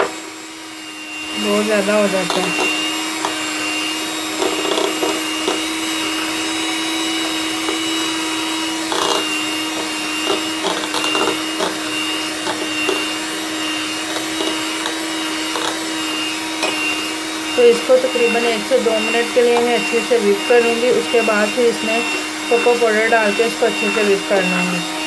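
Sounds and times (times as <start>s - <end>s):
electric mixer motor whine: 0.0s - 25.0s
beaters clicking on bowl: 1.4s - 24.5s.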